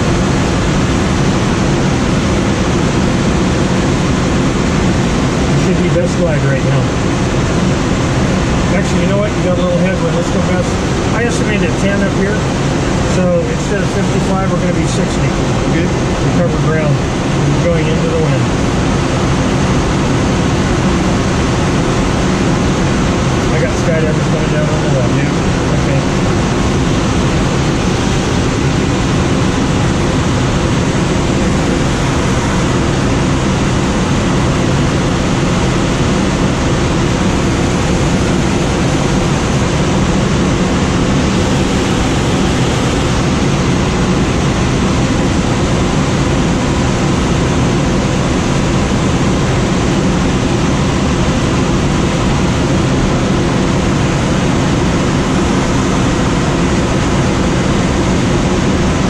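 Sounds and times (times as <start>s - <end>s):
air rushing over glider: 6.7s - 59.0s.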